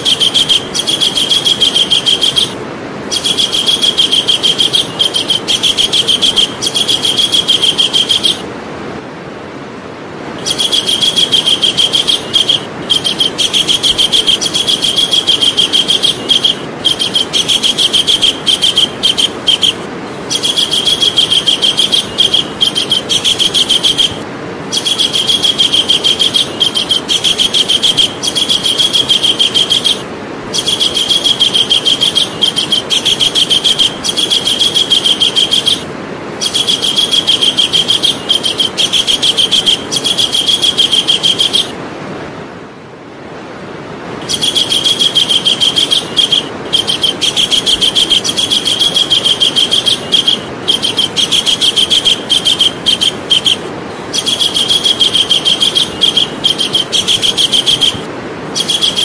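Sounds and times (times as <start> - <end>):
kingfisher calling in rapid trills: 0.0 - 8.5, 10.4 - 41.8, 44.2 - 59.0
steady background hiss: 0.0 - 59.0.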